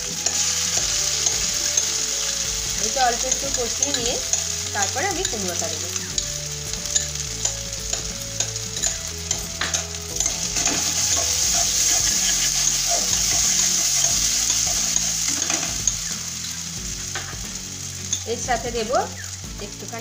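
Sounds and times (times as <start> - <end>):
metal spatula scraping: 0.0 - 17.4
paste sizzling in hot oil: 0.0 - 20.0.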